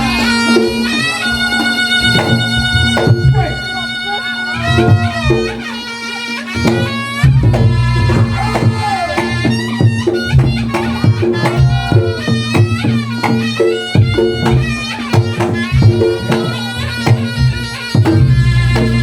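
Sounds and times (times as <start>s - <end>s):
drum strikes: 0.0s - 3.8s, 6.6s - 19.0s
reed shawm melody: 0.0s - 19.0s.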